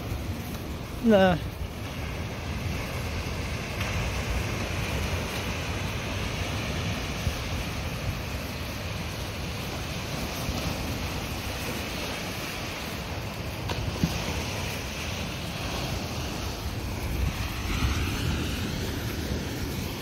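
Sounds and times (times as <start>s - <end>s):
waves washing in: 0.0s - 20.0s
wind buffeting microphone: 0.0s - 20.0s.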